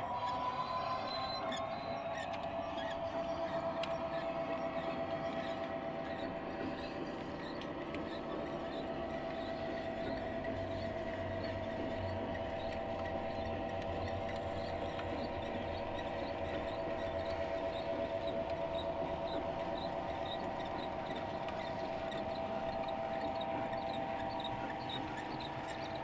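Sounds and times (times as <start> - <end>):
model train motor whine: 0.0 - 26.0.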